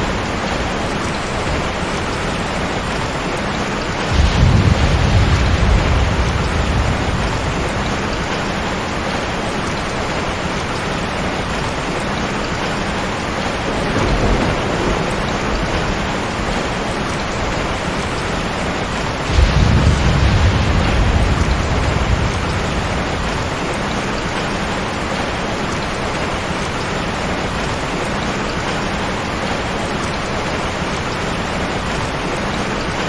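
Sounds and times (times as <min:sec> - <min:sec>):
thunder rumbling: 0:00.0 - 0:27.8
heavy rain pouring: 0:00.0 - 0:33.0.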